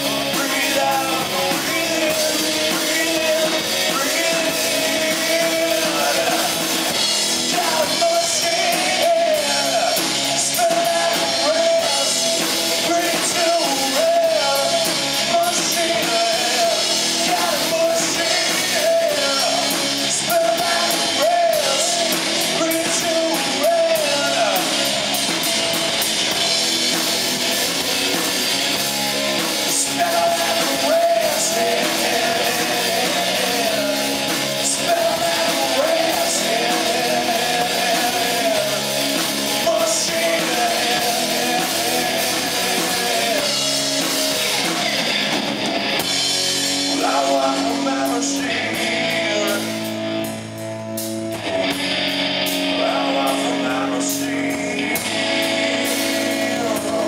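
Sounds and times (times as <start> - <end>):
person singing: 0.0 - 25.5, 29.1 - 45.0, 46.6 - 50.0, 52.6 - 57.0
bass guitar: 0.0 - 57.0
drum kit with cymbals: 0.0 - 57.0.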